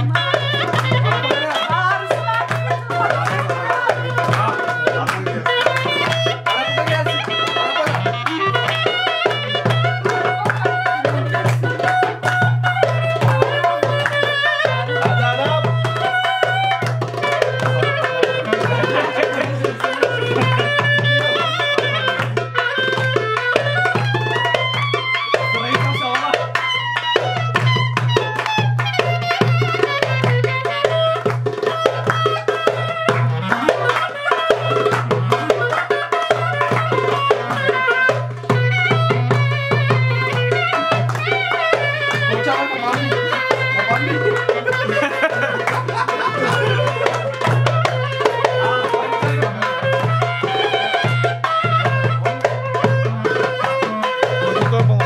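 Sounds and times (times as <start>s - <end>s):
hand drum fast rhythm: 0.0s - 55.0s.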